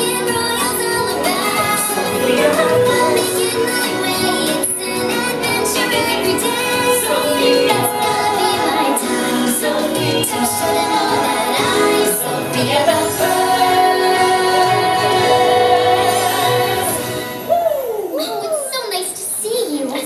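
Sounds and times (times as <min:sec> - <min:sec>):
woman singing: 0:00.0 - 0:17.4.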